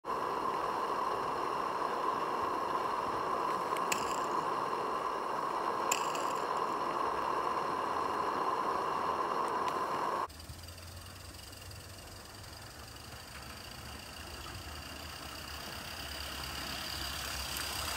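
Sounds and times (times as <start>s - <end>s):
steam hissing: 0.0s - 17.9s.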